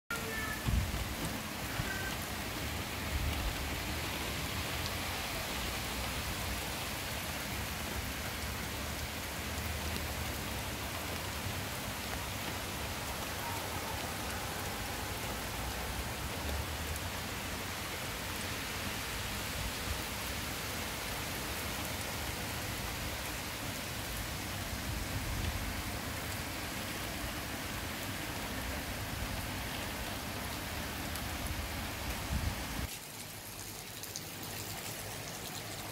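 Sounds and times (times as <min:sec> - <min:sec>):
steady rain falling: 0:00.1 - 0:35.9.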